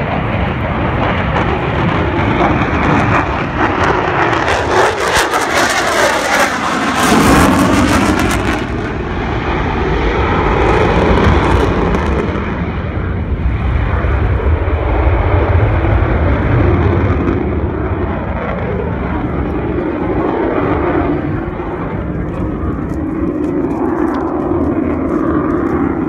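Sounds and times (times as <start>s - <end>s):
deep jet rumble: 0.0s - 26.0s
jet engine roar passing: 0.0s - 26.0s.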